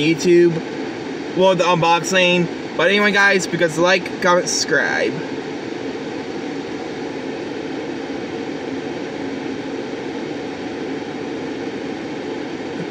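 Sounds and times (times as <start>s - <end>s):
car air conditioning blowing: 0.0s - 12.9s.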